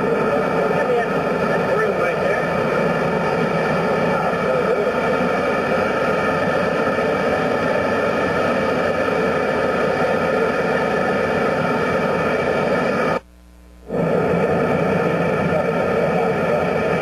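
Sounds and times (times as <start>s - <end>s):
gas burner roaring: 0.0s - 13.2s, 13.8s - 17.0s.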